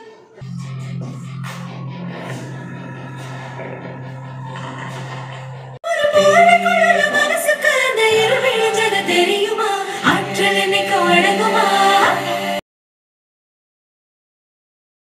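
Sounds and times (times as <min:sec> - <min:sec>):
different music track: 0:00.0 - 0:12.6
song with voices singing: 0:00.0 - 0:12.6.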